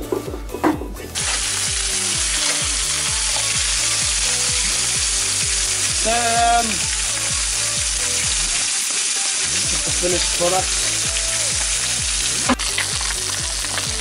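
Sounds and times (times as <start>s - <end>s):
seafood sizzling on hotplate: 1.2s - 14.0s.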